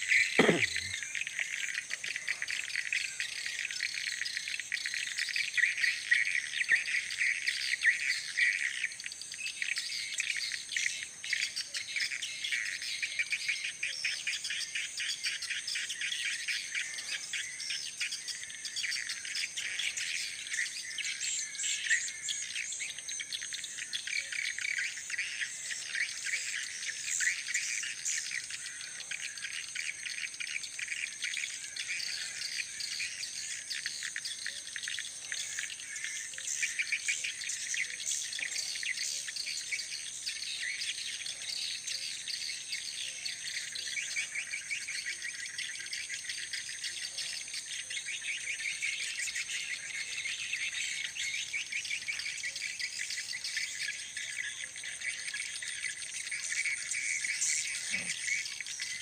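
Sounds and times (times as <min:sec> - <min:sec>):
high-pitched chirping and twittering: 0:00.0 - 0:59.0.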